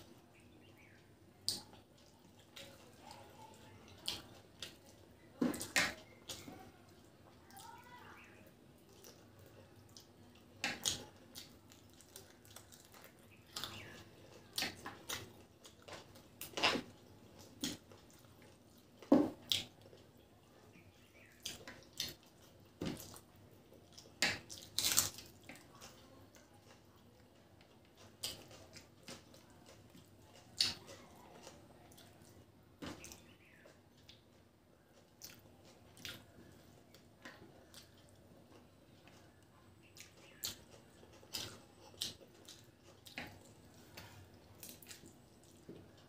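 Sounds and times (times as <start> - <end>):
chewing: 0.0 - 7.8, 8.8 - 46.0.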